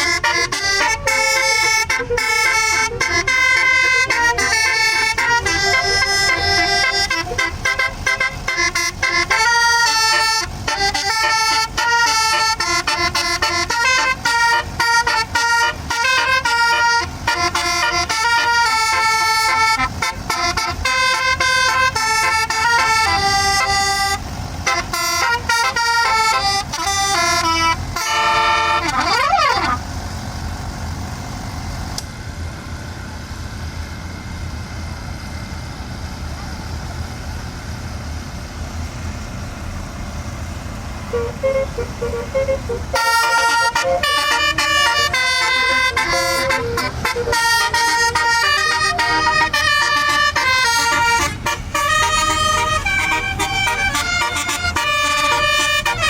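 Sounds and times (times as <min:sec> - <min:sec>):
musical bus air horn: 0:00.0 - 0:29.9, 0:41.0 - 0:56.0
bus engine running: 0:00.0 - 0:56.0.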